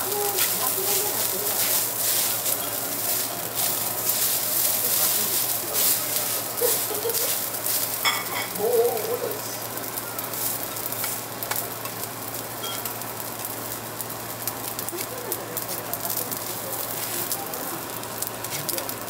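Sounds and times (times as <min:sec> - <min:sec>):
rice sizzling on griddle: 0:00.0 - 0:19.0.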